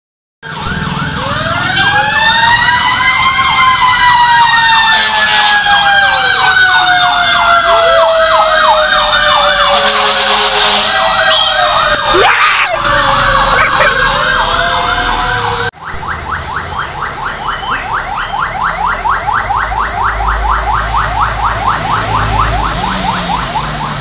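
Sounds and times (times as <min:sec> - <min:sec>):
siren long wail: 0:00.4 - 0:24.0
siren fast yelp: 0:00.5 - 0:24.0.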